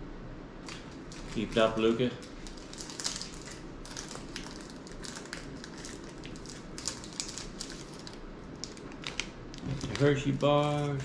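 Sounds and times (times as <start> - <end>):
chocolate wrapper crinkling: 0.7 - 11.0.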